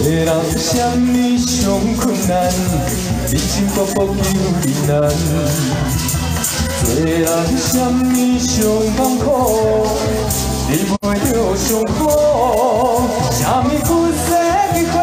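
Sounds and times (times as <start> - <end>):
man singing into microphone: 0.0 - 15.0
pop backing track with shaker: 0.0 - 15.0.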